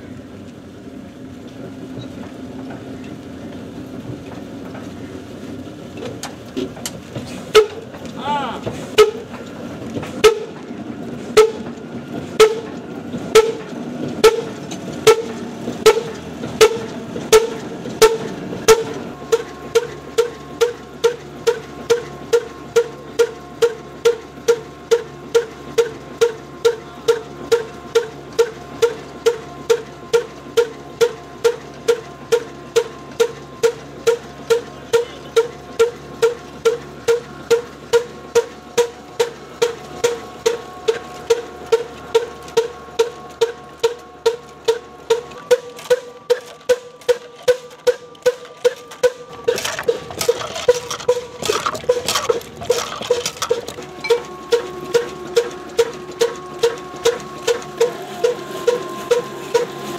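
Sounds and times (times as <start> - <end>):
diesel engine exhaust bangs: 1.5 - 59.9.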